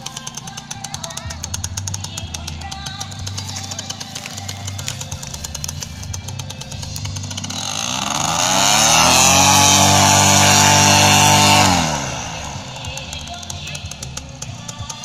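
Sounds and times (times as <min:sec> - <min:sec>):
paramotor engine and propeller revving: 0:00.0 - 0:15.0.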